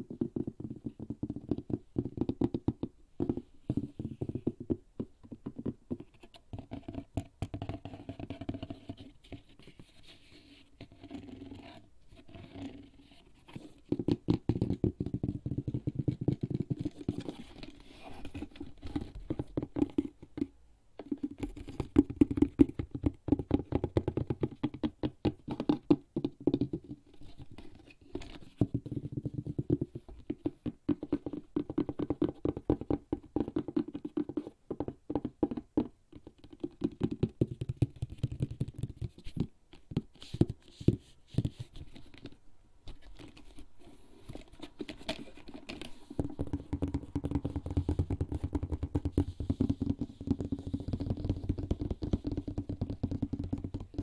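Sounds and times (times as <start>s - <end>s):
fingertips tapping on leather bag: 0.0s - 9.8s, 13.5s - 43.6s, 44.3s - 54.0s.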